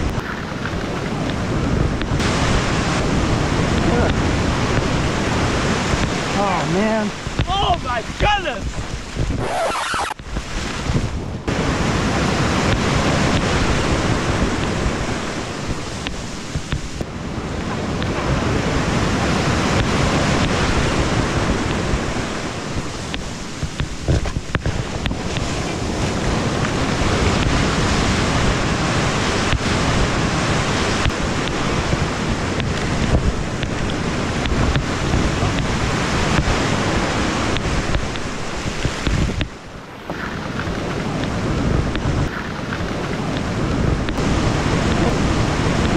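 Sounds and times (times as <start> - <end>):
surf rushing and foaming: 0.0 - 45.9
wind buffeting microphone: 0.0 - 45.9.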